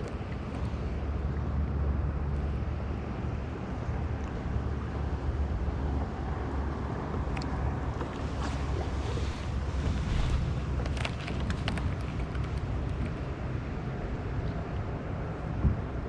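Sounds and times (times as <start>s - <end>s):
wind buffeting microphone: 1.9s - 16.0s.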